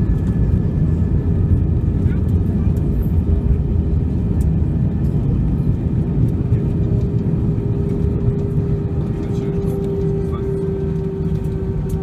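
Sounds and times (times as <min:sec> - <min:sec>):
engine and wheel rumble in cabin: 0:00.0 - 0:12.0.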